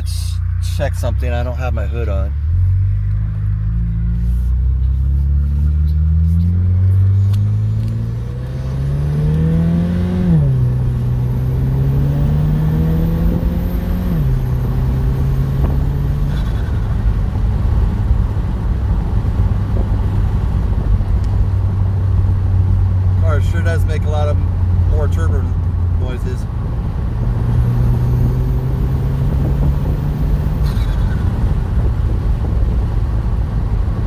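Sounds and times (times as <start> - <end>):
car engine accelerating: 0.0 - 34.0
road rumble: 0.0 - 34.0.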